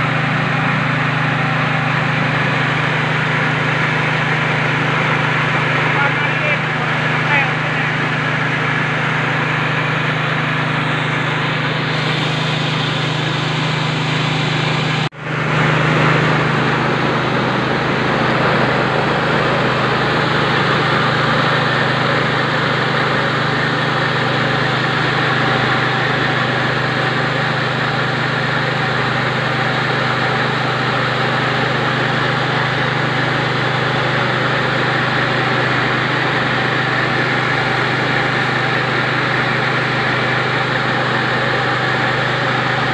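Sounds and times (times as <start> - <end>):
rice mill motor hum: 0.0 - 42.9
rush of milling works: 0.0 - 42.9.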